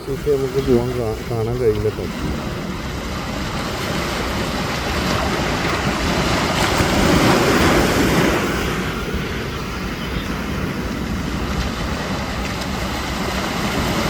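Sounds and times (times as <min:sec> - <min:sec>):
sea surf washing in: 0:00.0 - 0:14.0.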